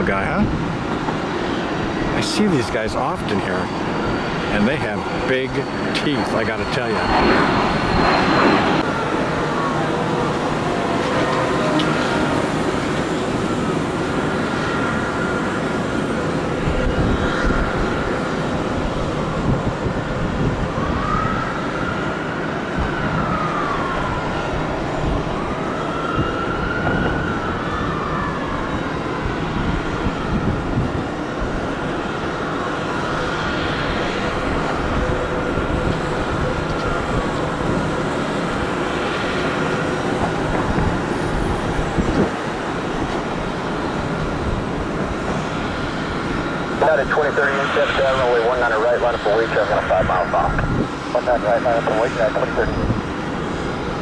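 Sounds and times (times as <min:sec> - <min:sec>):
emergency vehicle sirens wailing: 0:00.0 - 0:54.0
steady background rush: 0:00.0 - 0:54.0.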